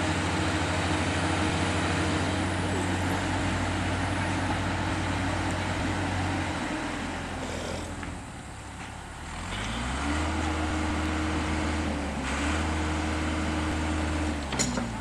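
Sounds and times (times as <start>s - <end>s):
diesel engine of drilling rig: 0.0s - 15.0s.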